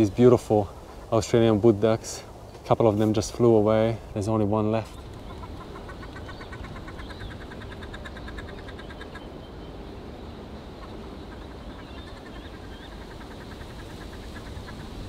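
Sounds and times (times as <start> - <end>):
birds calling rattling notes: 0.0 - 15.0.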